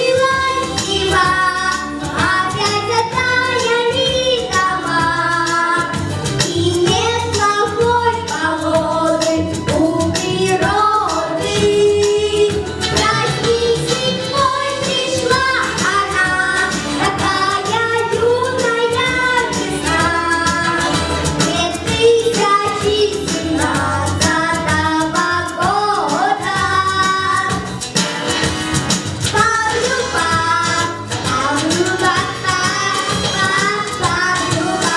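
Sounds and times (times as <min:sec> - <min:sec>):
girl singing: 0:00.0 - 0:27.7, 0:29.3 - 0:34.9
pop backing track: 0:00.0 - 0:34.9.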